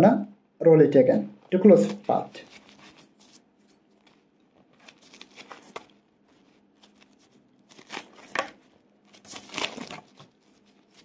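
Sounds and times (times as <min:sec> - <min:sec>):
bamboo mat rustling: 0:01.8 - 0:11.0.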